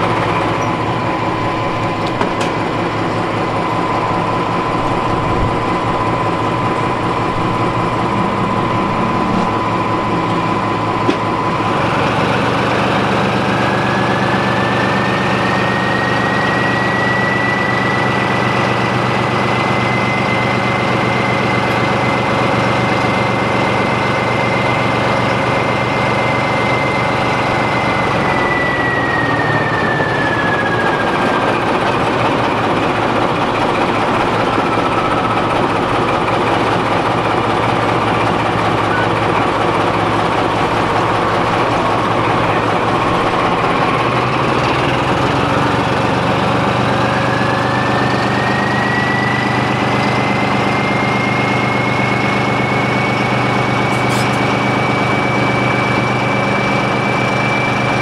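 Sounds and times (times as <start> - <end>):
high engine whine: 0.0 - 58.0
locomotive diesel engine: 0.0 - 58.0.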